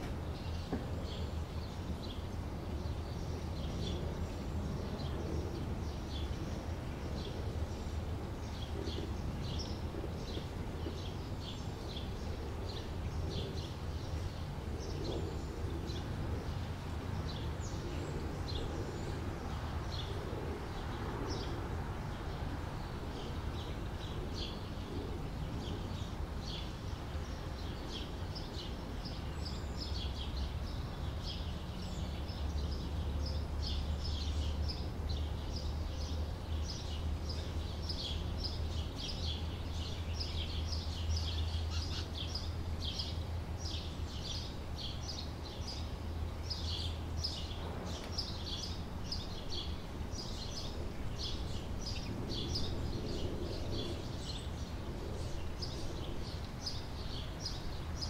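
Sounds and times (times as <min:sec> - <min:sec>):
low outdoor rumble: 0:00.0 - 0:58.0
small birds chirping: 0:00.0 - 0:58.0.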